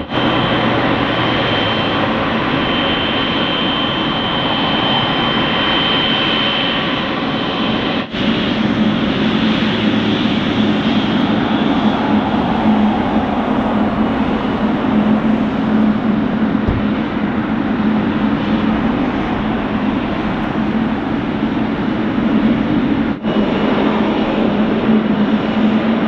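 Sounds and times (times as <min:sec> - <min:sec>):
constant low hum: 0:00.0 - 0:26.0
jet engines roaring: 0:00.0 - 0:26.0.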